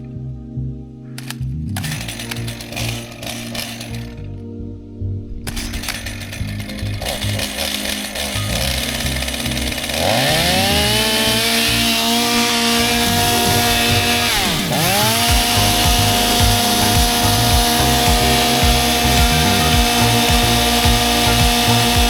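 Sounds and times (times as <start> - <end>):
chainsaw revving: 1.8 - 4.2, 5.5 - 22.0.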